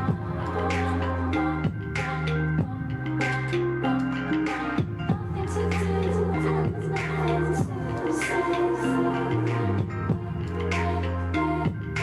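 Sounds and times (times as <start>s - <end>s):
electronic beat: 0.0s - 12.0s.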